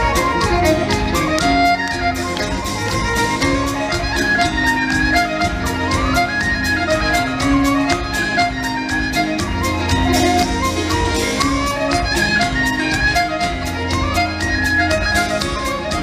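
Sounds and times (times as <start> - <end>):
piano accordion melody: 0.0 - 16.0
steady drum beat: 0.0 - 16.0.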